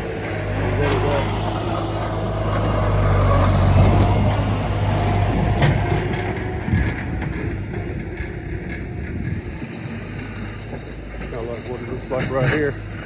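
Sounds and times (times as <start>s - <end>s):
skid steer engine under load: 0.0s - 13.0s.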